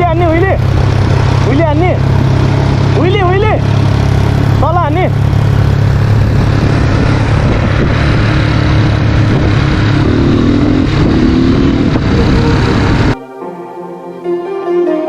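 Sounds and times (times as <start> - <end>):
dirt bike engine revving: 0.0 - 13.2.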